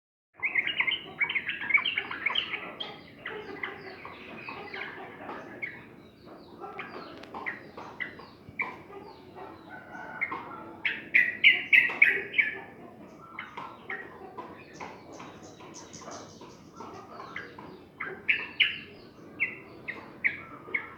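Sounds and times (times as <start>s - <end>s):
bulbuls chattering and singing: 0.4s - 20.9s.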